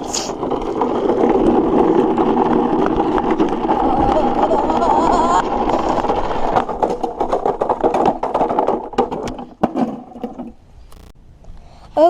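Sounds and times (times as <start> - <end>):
toy truck rattling downhill: 0.0 - 10.6.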